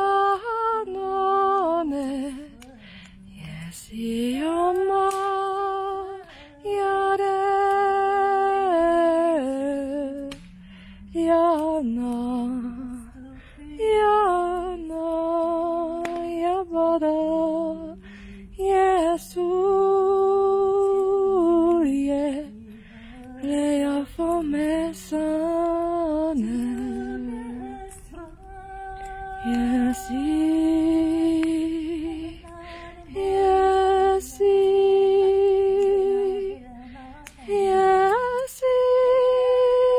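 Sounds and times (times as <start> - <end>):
woman singing slow melody: 0.0 - 39.9.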